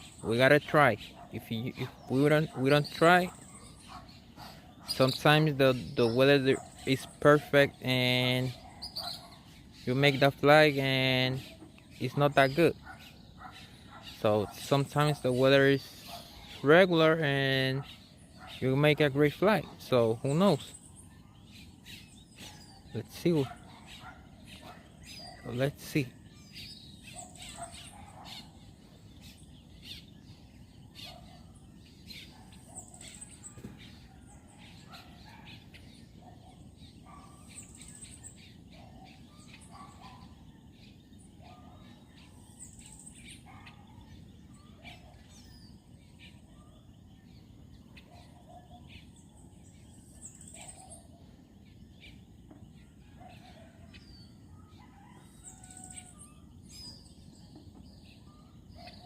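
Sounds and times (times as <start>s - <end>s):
faint birds chirping: 0.0s - 59.0s.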